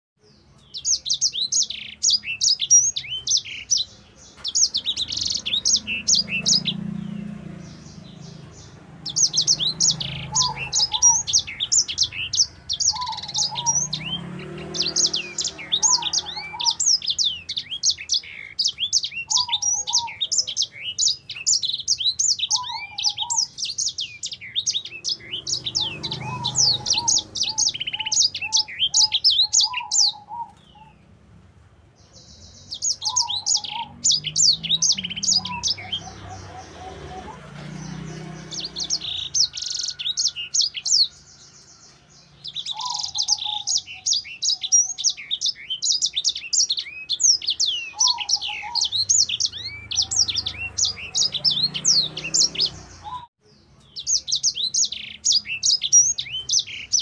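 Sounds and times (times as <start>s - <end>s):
songbird singing high trills: 0.2s - 31.1s, 32.0s - 57.0s.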